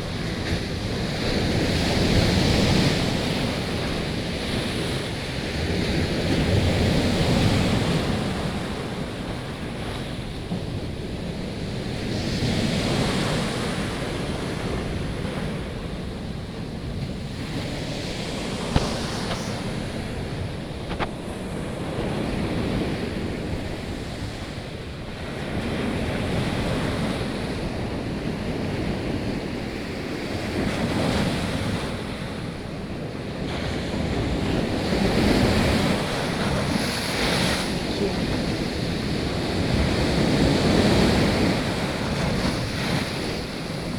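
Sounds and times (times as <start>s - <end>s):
sea waves breaking: 0.0s - 43.9s
wind buffeting microphone: 0.0s - 43.9s.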